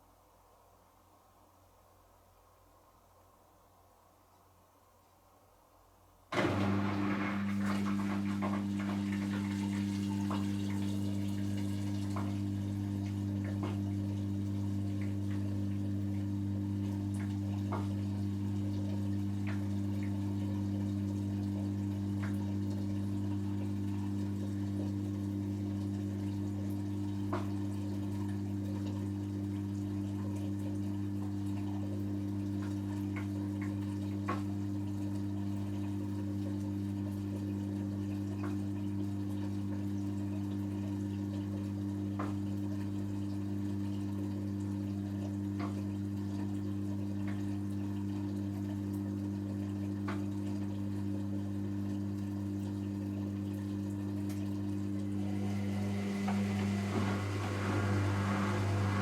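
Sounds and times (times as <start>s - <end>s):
washing machine humming: 6.2s - 59.0s
water trickling: 6.4s - 29.8s, 30.4s - 59.0s.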